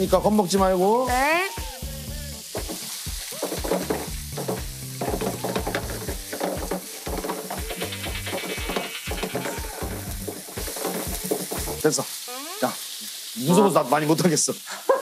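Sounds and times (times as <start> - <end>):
pan flambe: 0.0 - 14.2
beef sizzling in a pan: 0.0 - 15.0
stirring and pan noise: 0.0 - 15.0.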